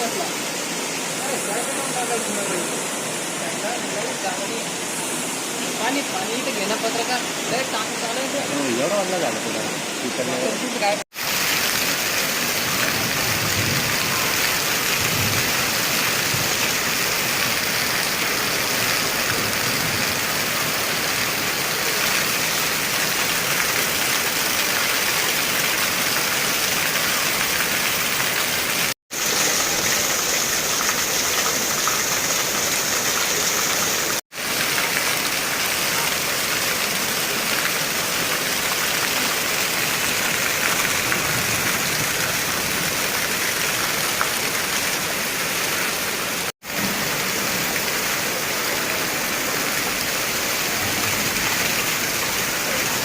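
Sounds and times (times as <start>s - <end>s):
heavy rain hissing: 0.0s - 53.0s.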